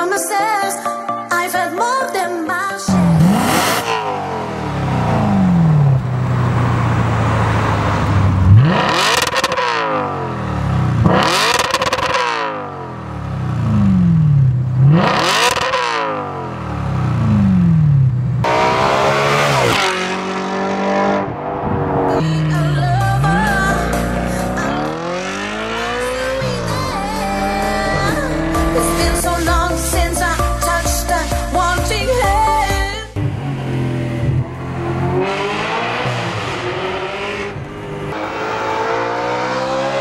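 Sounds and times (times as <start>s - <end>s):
car engine revving: 2.9s - 32.2s, 33.2s - 40.0s.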